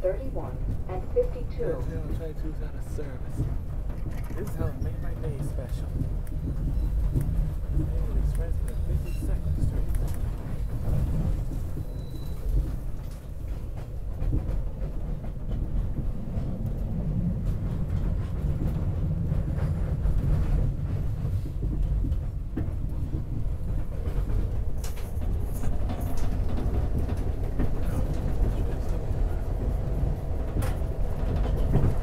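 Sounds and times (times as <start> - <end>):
train wheels rumbling: 0.0 - 32.0
wheels clattering over rail joints: 3.5 - 32.0.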